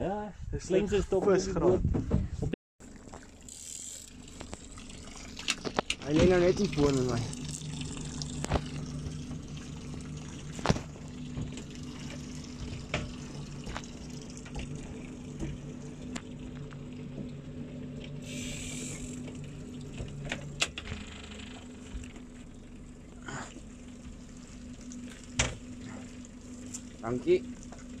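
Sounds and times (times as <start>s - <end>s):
water sloshing around boat: 1.2s - 28.0s
steady low hum: 2.8s - 28.0s.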